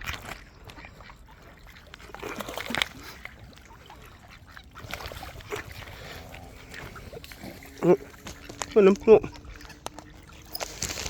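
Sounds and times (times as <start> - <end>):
ducks quacking: 0.6 - 10.6.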